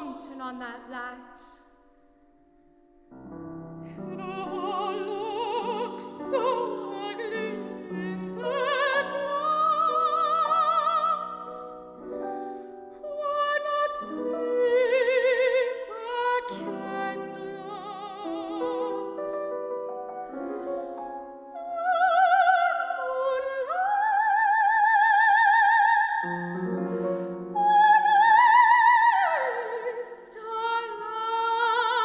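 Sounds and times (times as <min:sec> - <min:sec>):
operatic soprano singing: 0:00.0 - 0:01.8, 0:03.8 - 0:19.8, 0:20.4 - 0:32.0
piano: 0:00.0 - 0:32.0.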